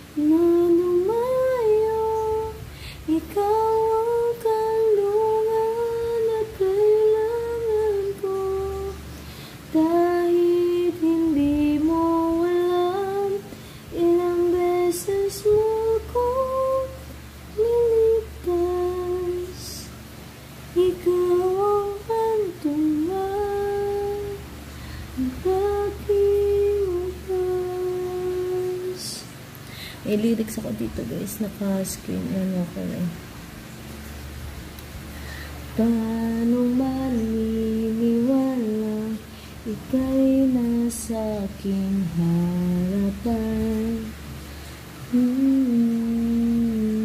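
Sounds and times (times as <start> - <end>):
woman humming a lullaby: 0.0 - 20.0, 20.7 - 29.4, 35.7 - 44.2, 45.0 - 47.0.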